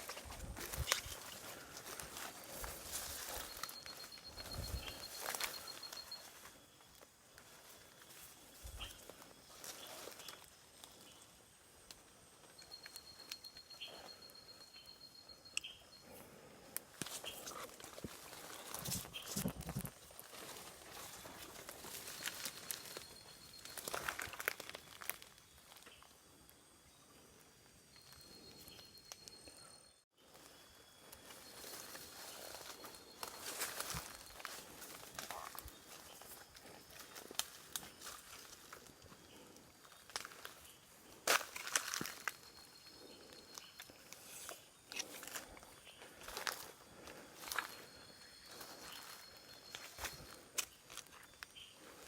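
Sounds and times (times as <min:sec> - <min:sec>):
steady high-pitched tone: 0:00.0 - 0:24.8, 0:26.8 - 0:50.7
faint rural outdoor ambience: 0:00.0 - 0:52.0
frogs and insects chorus: 0:00.0 - 0:52.0
high insect trill: 0:00.0 - 0:52.0.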